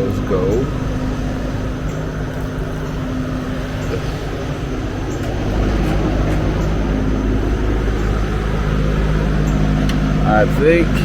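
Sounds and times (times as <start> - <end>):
low machine hum: 0.0 - 11.0
low rumble: 0.0 - 11.0.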